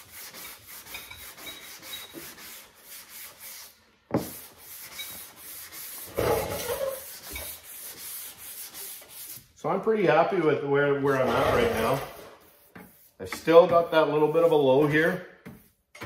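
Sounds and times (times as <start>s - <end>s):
sandpaper rubbing on panel: 0.0s - 9.6s, 11.4s - 15.8s.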